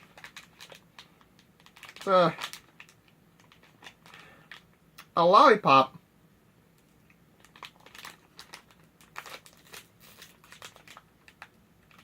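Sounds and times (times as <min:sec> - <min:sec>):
plastic candy wrapper crinkling: 0:00.0 - 0:05.1, 0:06.8 - 0:12.0.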